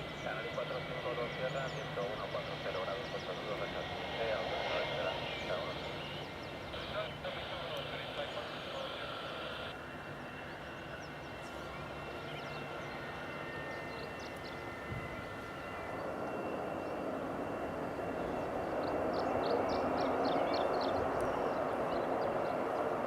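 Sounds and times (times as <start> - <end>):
airliner engines whining: 0.0 - 23.0.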